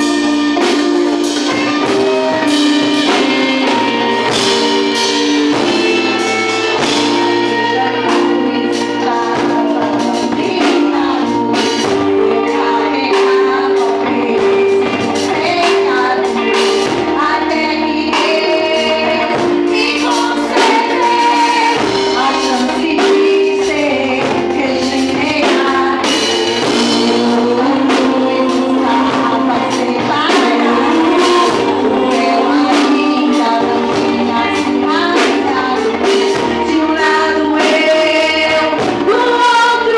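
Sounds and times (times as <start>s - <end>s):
worship band with singers: 0.0s - 39.9s.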